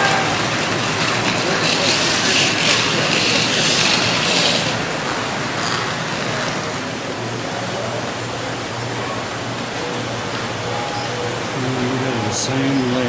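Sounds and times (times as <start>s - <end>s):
rushing hiss of room noise: 0.0s - 13.0s.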